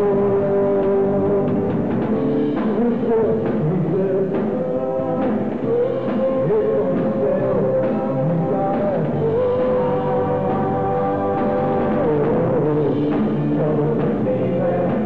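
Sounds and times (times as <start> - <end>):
drum kit with cymbals: 0.0 - 15.0
rock band playing: 0.0 - 15.0
sliding melody line: 0.0 - 15.0.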